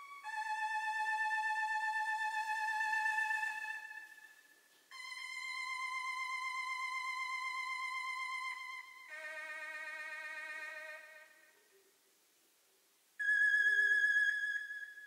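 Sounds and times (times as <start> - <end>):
buzzy electronic sawtooth tones: 0.0 - 11.4, 13.2 - 15.0.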